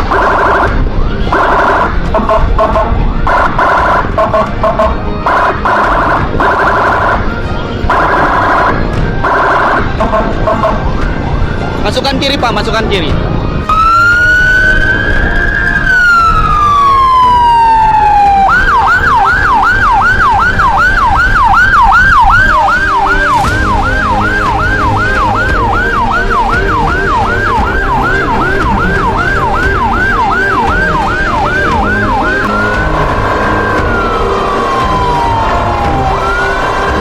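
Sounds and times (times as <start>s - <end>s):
electronic emergency siren: 0.0s - 37.0s.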